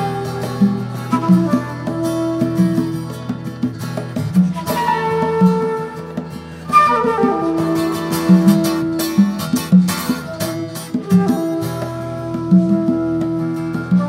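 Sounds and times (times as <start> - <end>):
conga drums: 0.0 - 14.0
flute melody: 0.0 - 14.0
strummed acoustic guitar: 0.0 - 14.0.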